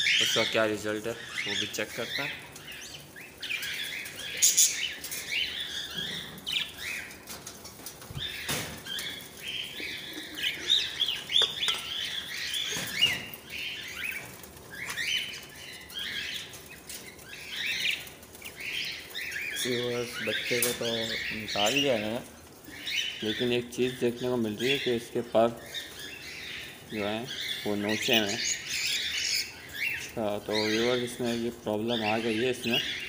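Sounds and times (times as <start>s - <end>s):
budgerigars chirping: 0.0s - 7.2s, 8.2s - 33.0s.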